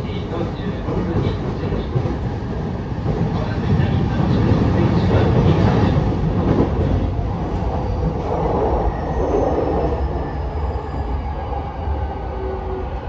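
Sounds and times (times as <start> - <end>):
train wheel and rail rumble: 0.0 - 13.0.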